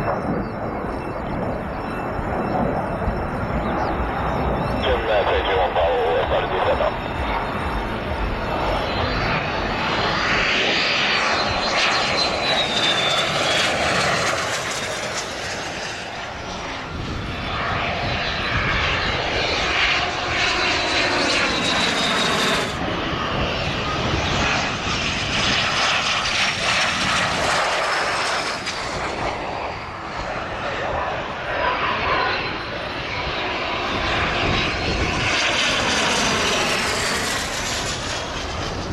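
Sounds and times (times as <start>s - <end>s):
jet engines whistling past: 0.0s - 38.9s.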